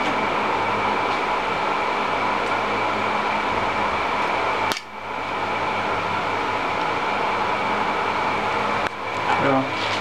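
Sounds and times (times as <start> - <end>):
low electrical drone: 0.0 - 10.0
workshop machinery whirring: 0.0 - 10.0.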